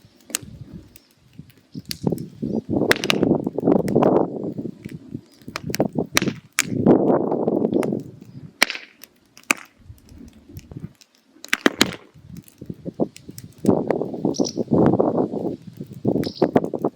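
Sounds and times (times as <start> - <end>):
firewood crackling and popping: 0.0 - 16.9.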